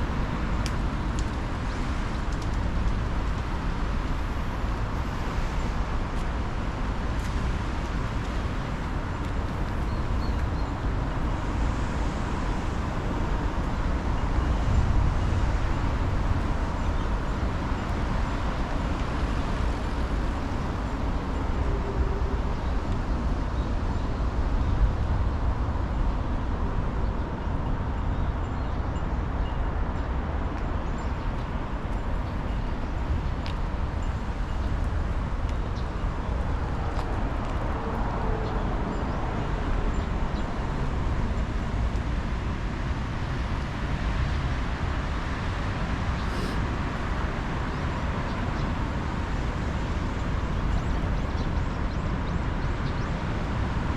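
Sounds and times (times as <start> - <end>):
low city rumble: 0.0 - 53.9.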